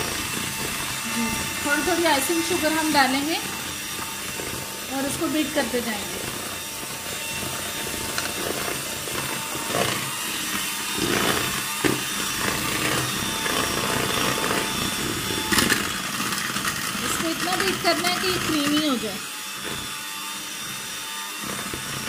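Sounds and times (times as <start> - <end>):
electric hand mixer whirring: 0.0 - 22.0.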